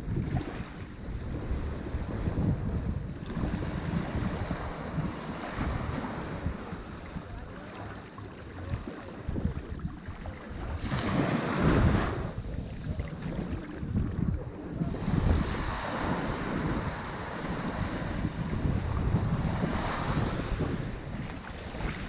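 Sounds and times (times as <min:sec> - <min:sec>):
ocean surf washing on shore: 0:00.0 - 0:22.0
wind buffeting microphone: 0:00.0 - 0:22.0
wave breaking: 0:03.2 - 0:22.0.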